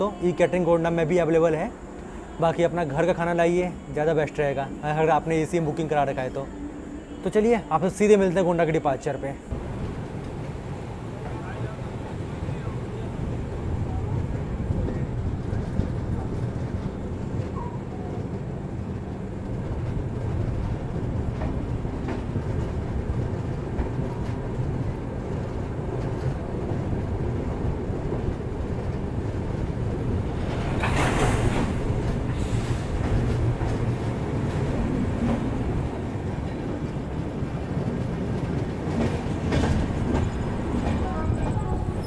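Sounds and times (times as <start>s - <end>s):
train rumbling along track: 0.0s - 42.0s.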